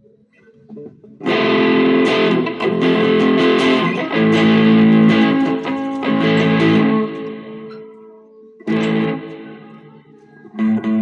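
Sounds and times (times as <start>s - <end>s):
distorted electric guitar chords: 1.2s - 11.0s.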